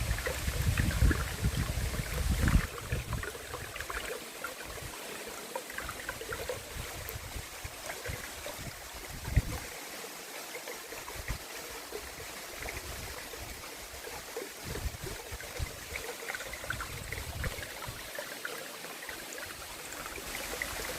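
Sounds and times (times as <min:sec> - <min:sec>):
waterfall and stream splashing: 0:00.0 - 0:20.9.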